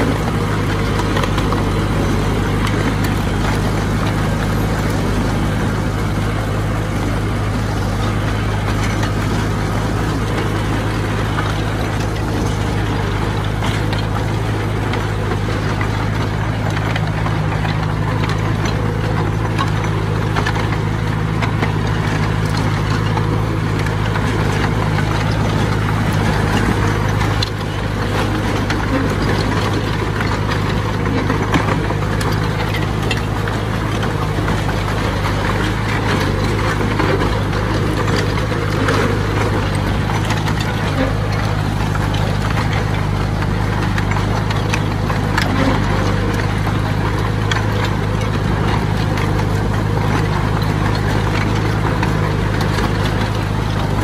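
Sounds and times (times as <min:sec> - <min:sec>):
diesel engine droning: 0:00.0 - 0:54.0
machine clattering and rattling: 0:00.0 - 0:54.0.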